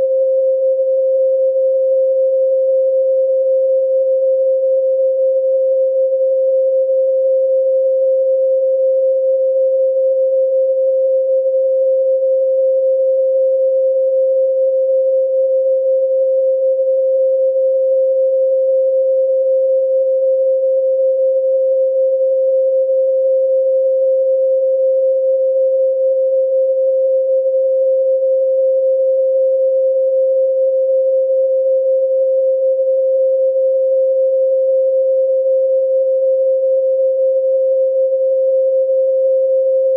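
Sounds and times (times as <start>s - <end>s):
steady pure sine tone: 0.0s - 39.9s.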